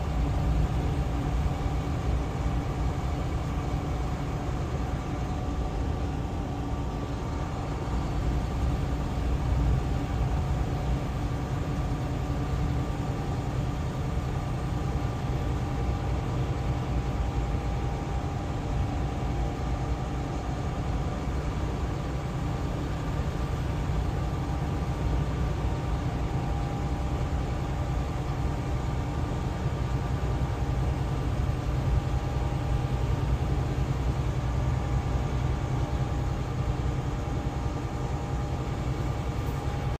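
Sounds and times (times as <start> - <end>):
faint steady whine: 0.0 - 40.0
truck engine and road drone: 0.0 - 40.0.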